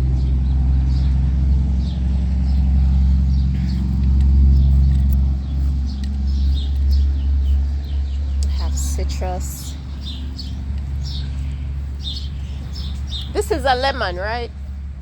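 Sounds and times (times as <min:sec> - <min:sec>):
small birds chirping: 0:00.0 - 0:14.8
loud low rumble: 0:00.0 - 0:15.0.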